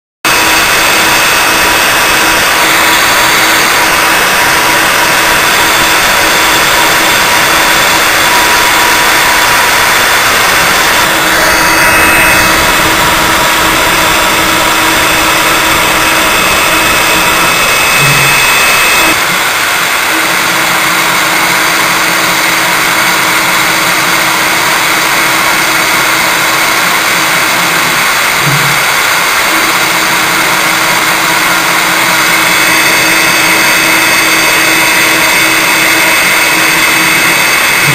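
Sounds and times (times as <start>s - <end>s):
router spindle engraving: 0.3s - 37.9s.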